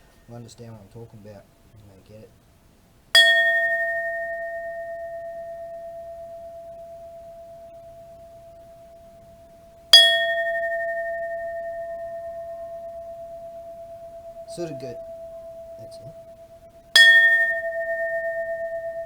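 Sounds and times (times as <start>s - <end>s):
iron bell ringing: 3.2s - 19.0s.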